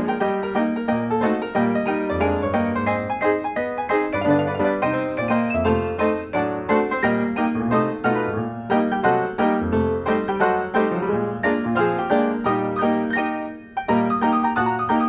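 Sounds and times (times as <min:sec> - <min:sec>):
lively solo piano music: 0:00.0 - 0:15.0.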